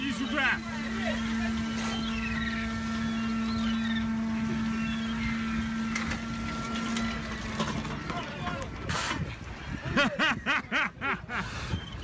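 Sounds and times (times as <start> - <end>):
boat machinery droning: 0.0 - 12.0.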